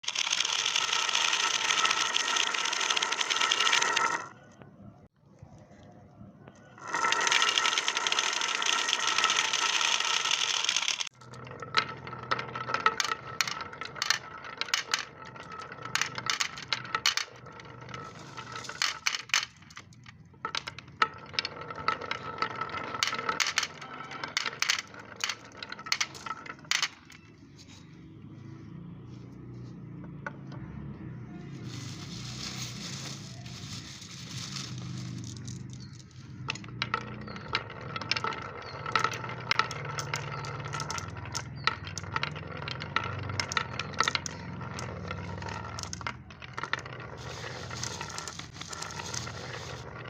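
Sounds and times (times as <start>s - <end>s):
marbles clicking along track: 0.0s - 4.4s, 6.8s - 27.7s, 30.0s - 50.0s
marbles rolling: 0.0s - 4.4s, 6.6s - 50.0s.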